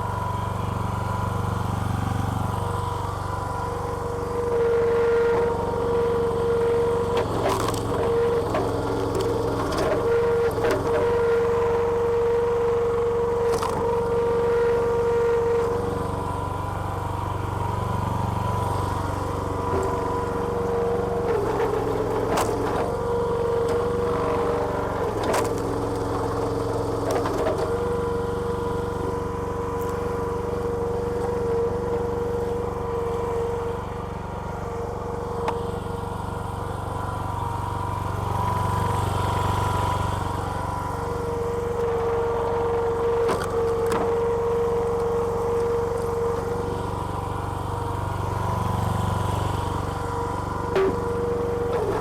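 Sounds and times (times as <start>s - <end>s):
hydraulic pump whine: 0.0s - 52.0s
small petrol engine running: 0.0s - 52.0s.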